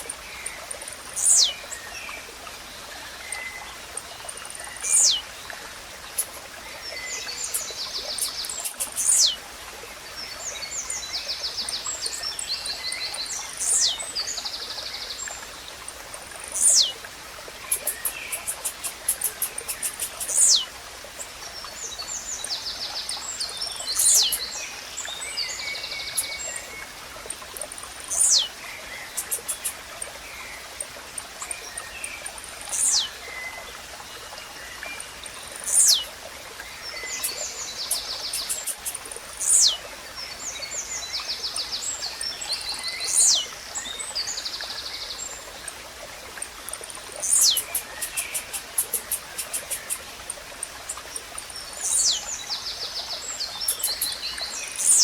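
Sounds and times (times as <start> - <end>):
small birds trilling and chattering: 0.0 - 9.4, 10.0 - 55.0
running water hiss: 0.0 - 55.0.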